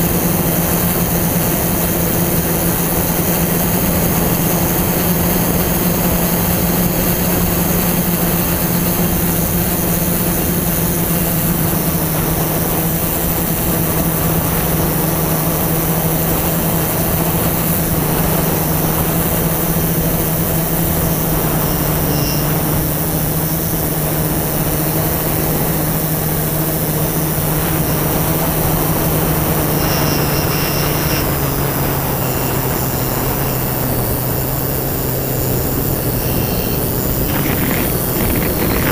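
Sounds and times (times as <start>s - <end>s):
drone motors humming: 0.0s - 38.9s.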